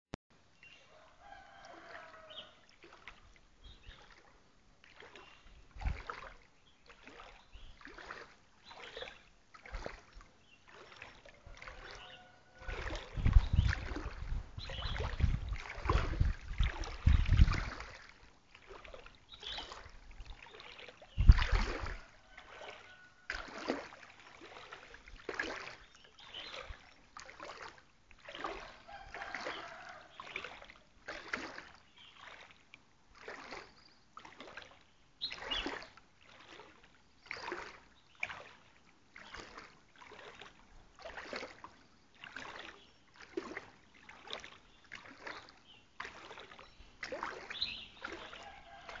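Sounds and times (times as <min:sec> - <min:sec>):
floodwater splashing: 0:00.6 - 0:49.0.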